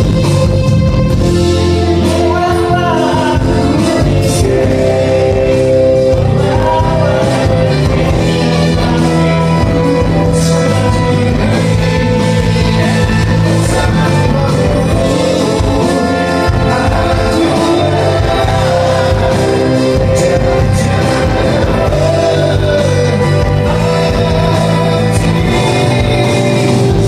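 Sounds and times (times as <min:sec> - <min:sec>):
bass: 0:00.0 - 0:27.0
guitar: 0:00.0 - 0:27.0
person singing: 0:01.4 - 0:27.0.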